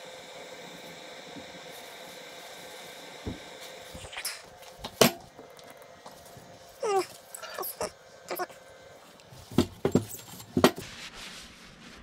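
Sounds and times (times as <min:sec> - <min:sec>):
space heater fan running: 0:00.0 - 0:11.2.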